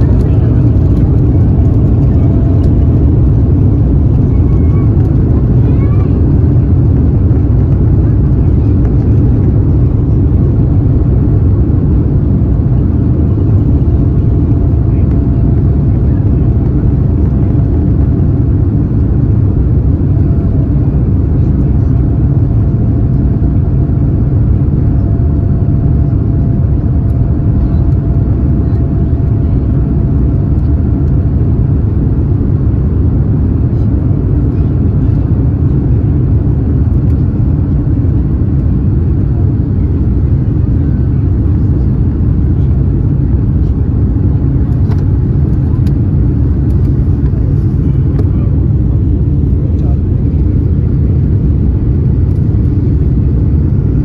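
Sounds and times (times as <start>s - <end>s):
deep engine rumble: 0.0s - 54.0s.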